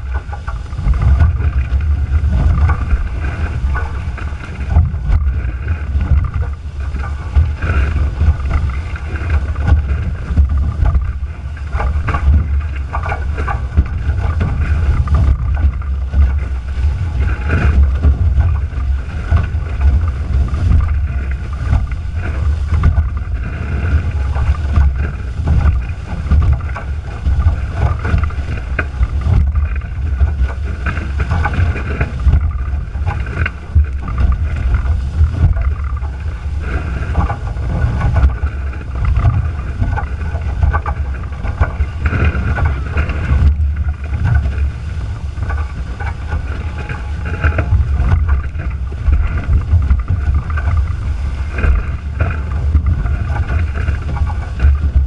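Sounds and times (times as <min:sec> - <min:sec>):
heavy wind rumble on microphone: 0:00.0 - 0:55.0
hulls and spray rushing through water: 0:00.0 - 0:55.0.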